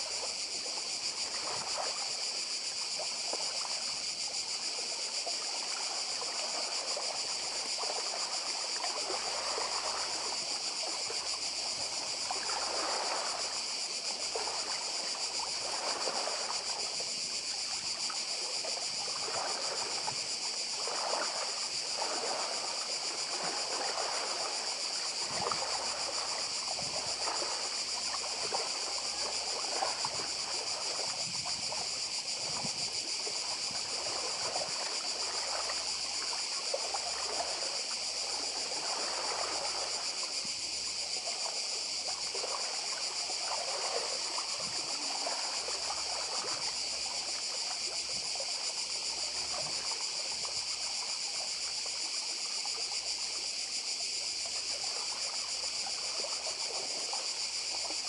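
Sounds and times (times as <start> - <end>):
cicadas buzzing: 0.0 - 58.0
waves lapping over pebbles: 0.0 - 58.0.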